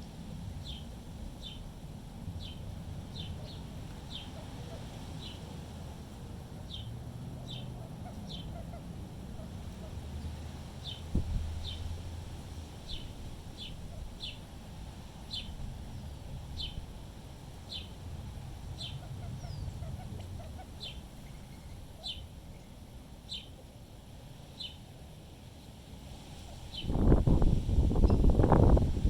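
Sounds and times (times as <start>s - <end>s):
low wind rumble: 0.0s - 29.0s.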